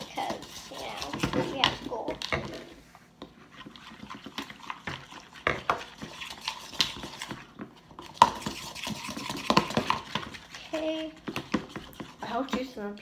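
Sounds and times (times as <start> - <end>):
spoons stirring sticky slime: 0.0 - 13.0.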